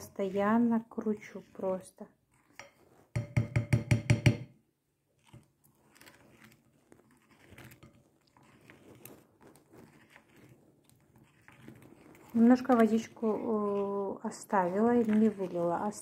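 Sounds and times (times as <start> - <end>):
spoon stirring wet paste: 0.0 - 16.0.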